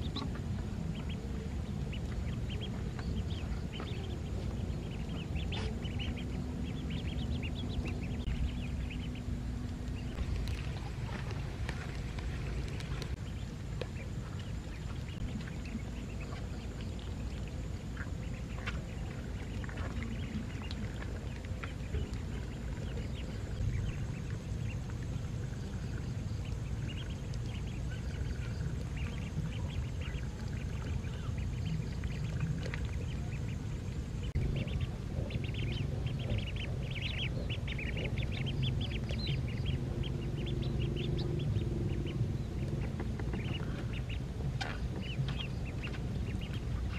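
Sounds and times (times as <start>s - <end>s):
ducklings peeping: 0.0s - 46.9s
steady low rumble: 0.0s - 46.9s.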